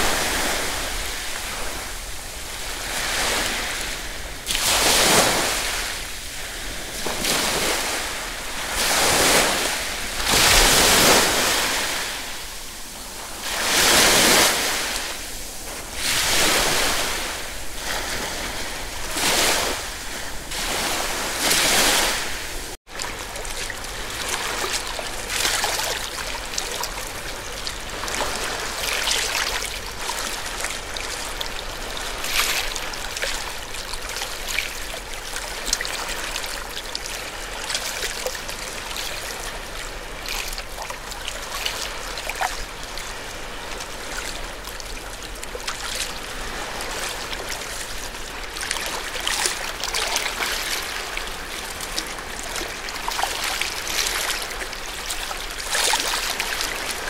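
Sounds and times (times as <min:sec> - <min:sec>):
seawater washing among rocks: 0:00.0 - 0:57.0.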